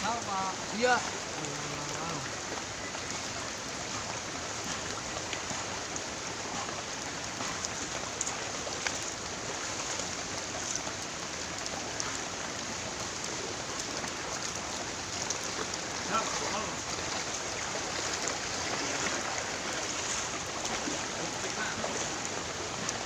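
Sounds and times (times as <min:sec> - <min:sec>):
rushing water hiss: 0:00.0 - 0:23.0.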